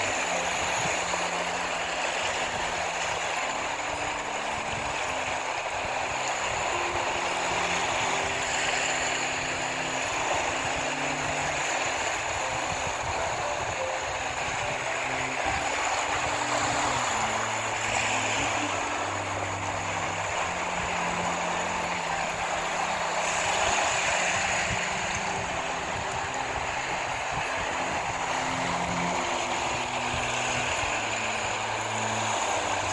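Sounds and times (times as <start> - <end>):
low held notes: 0.0 - 32.9
rushing water: 0.0 - 32.9.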